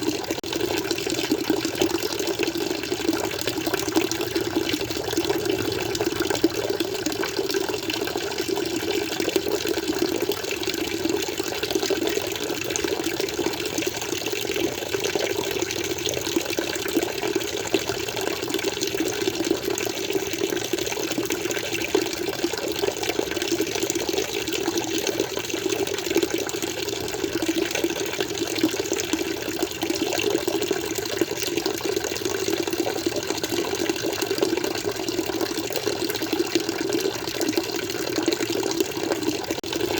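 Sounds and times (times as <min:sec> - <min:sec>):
aquarium water flowing: 0:00.0 - 0:39.9.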